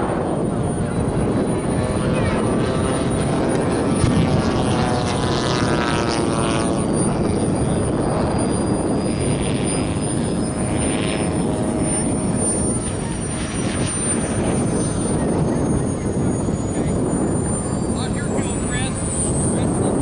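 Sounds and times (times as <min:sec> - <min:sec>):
model plane engine drone: 0:00.0 - 0:20.0.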